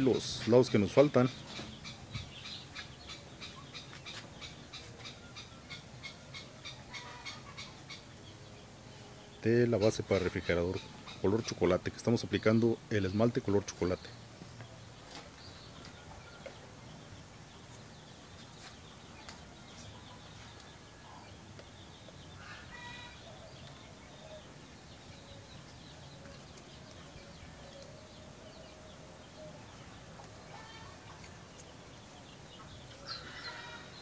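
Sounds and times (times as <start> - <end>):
faint bird calls: 0.0 - 34.0
low background noise: 0.0 - 34.0.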